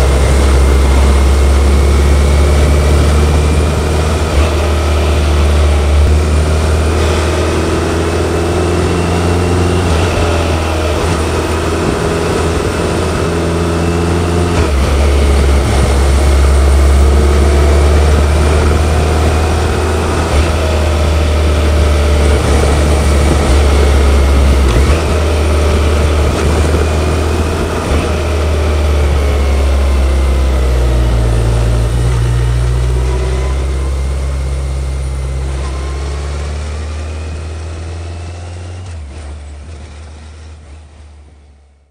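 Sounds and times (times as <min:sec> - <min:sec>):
motorcycle engine running: 0:00.0 - 0:41.8.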